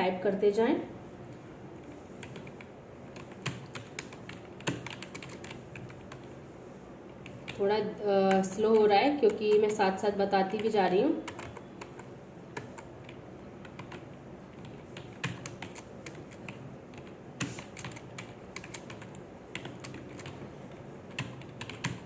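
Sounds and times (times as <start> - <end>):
computer keyboard keys clicking: 2.2 - 6.3, 7.1 - 7.6, 8.2 - 22.0.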